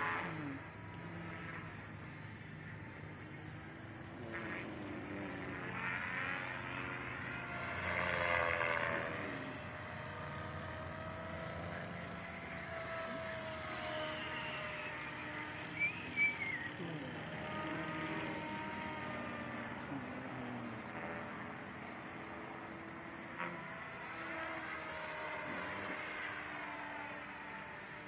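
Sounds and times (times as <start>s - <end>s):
model helicopter rotor and motor whine: 0.0s - 28.0s.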